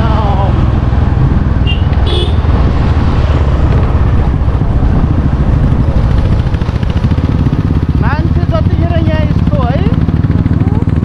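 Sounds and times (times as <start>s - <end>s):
wind buffeting microphone: 0.0s - 10.0s
motorcycle engine: 0.0s - 11.0s
road noise: 0.0s - 11.0s.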